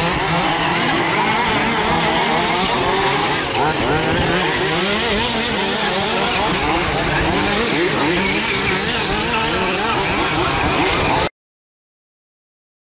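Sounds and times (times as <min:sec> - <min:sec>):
model buggy engines revving: 0:00.0 - 0:11.3.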